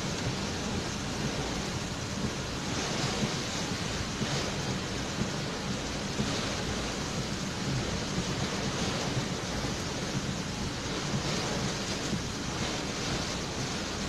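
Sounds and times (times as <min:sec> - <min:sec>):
heavy rain pouring: 0:00.0 - 0:14.0
wind rumbling on microphone: 0:00.0 - 0:14.0.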